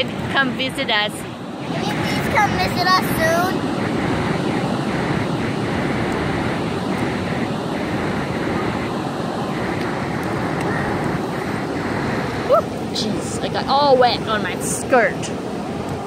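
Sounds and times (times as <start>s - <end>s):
ocean surf on beach: 0.0s - 16.0s
wind noise on microphone: 0.0s - 16.0s.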